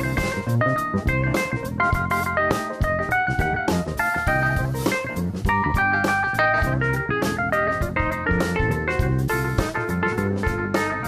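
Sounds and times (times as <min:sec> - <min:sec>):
electric guitar run: 0:00.0 - 0:09.1
drum kit with cymbal strikes: 0:00.0 - 0:11.0
keyboard: 0:00.0 - 0:11.0.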